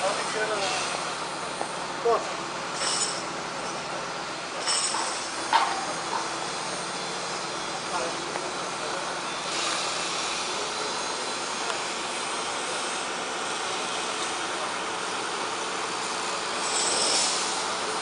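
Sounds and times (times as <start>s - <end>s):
distant machinery running: 0.0s - 18.0s.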